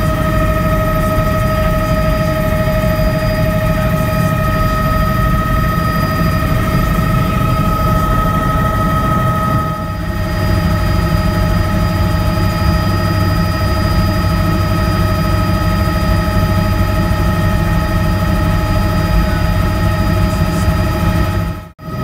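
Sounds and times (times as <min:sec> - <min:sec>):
helicopter rotor drone: 0:00.0 - 0:22.0
turbine engine whine: 0:00.0 - 0:22.0.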